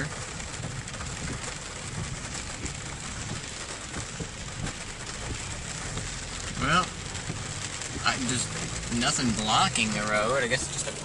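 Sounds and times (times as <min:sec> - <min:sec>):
steady rain: 0:00.0 - 0:11.0
vehicle road and engine hum: 0:00.0 - 0:11.0.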